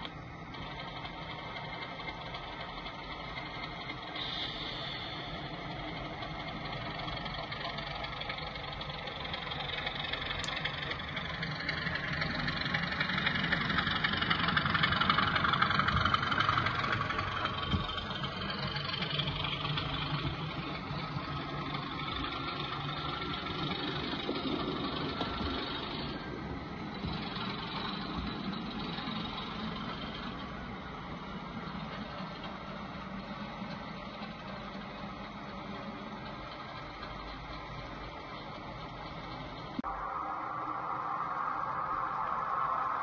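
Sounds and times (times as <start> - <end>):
model locomotive diesel engine: 0.0 - 43.0.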